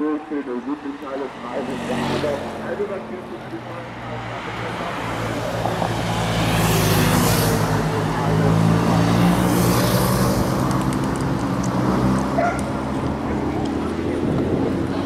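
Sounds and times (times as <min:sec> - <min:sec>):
motorcycle and car engines passing: 0:00.0 - 0:15.0.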